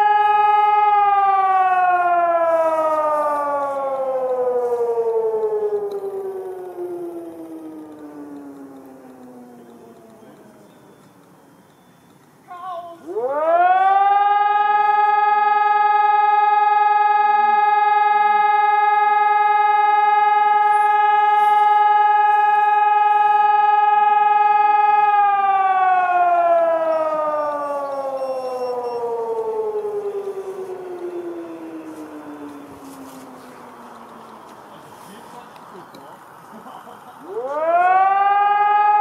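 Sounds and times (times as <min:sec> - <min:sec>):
alarm siren: 0:00.0 - 0:39.0.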